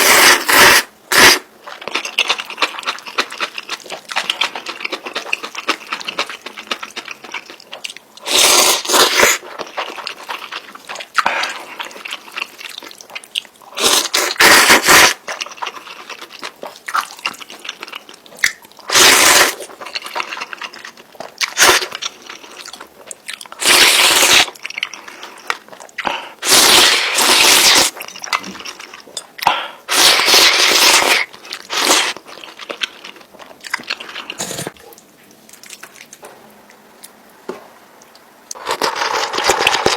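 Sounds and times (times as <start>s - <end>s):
chewing and mouth sounds: 1.1s - 26.6s, 27.3s - 37.2s.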